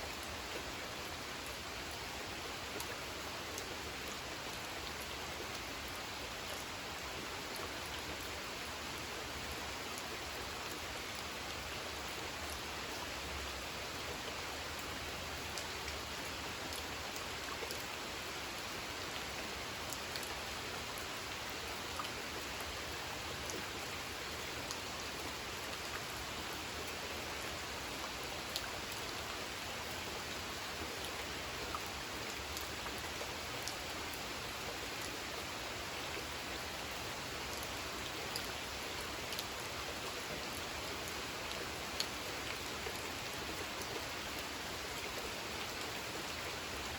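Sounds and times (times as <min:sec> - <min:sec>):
light rain on a pond: 0:00.0 - 0:46.9.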